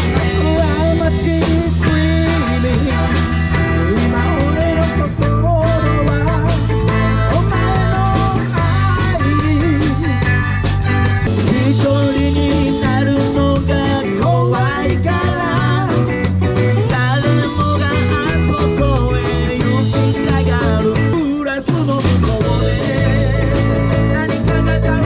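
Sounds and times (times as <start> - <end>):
bass guitar: 0.0 - 25.0
drums: 0.0 - 25.0
electric guitar: 0.0 - 25.0.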